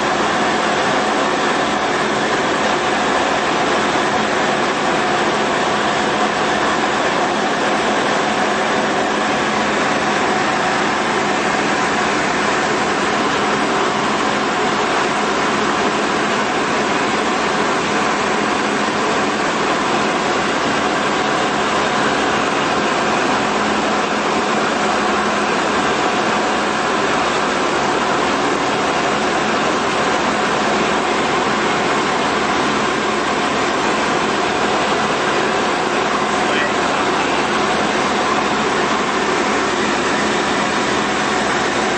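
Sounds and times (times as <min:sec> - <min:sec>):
aircraft engine and propeller: 0:00.0 - 0:41.9.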